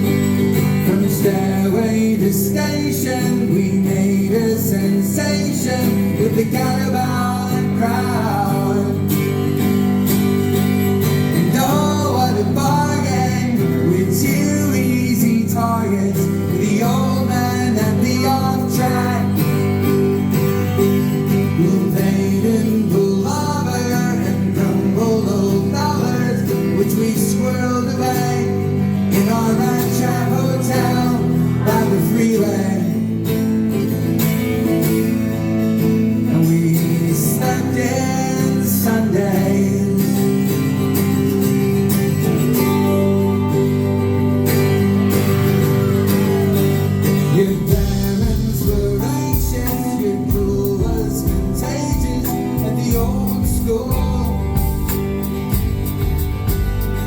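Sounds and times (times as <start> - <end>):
live folk rock band: 0.0 - 57.0.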